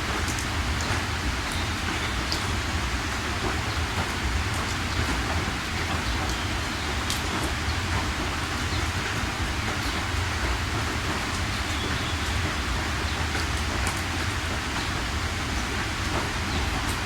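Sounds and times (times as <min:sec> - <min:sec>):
raindrop ticks: 0:00.0 - 0:02.6, 0:03.3 - 0:17.0
heavy rain hissing: 0:00.0 - 0:17.0.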